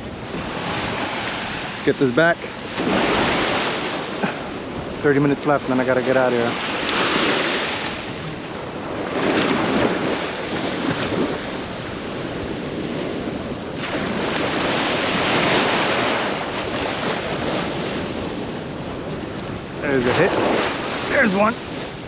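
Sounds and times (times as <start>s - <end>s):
waves breaking on sand: 0.0s - 22.0s
wind rumbling on microphone: 0.0s - 22.0s.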